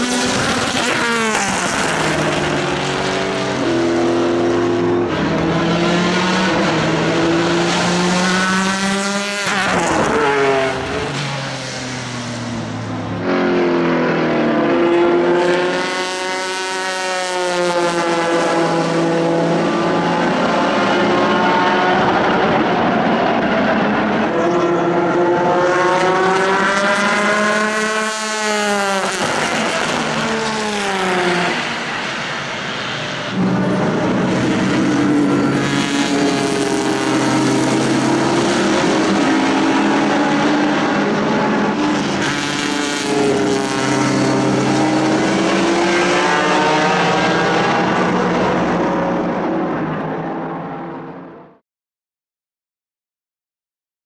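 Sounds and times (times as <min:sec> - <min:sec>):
racing car engine at speed: 0:00.0 - 0:51.6.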